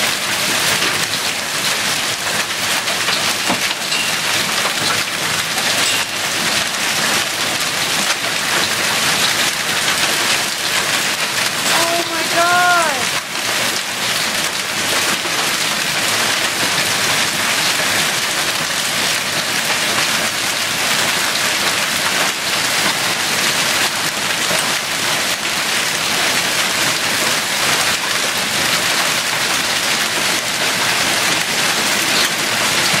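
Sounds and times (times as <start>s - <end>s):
hail and rain on concrete: 0.0s - 33.0s.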